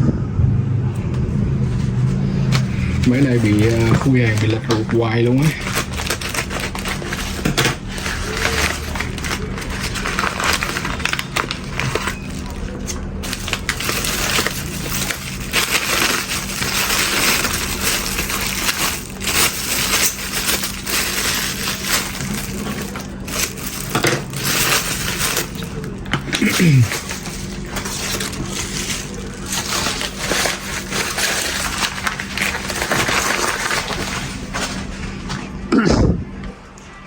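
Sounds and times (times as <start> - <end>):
crinkling of wrapping: 1.6 - 35.5.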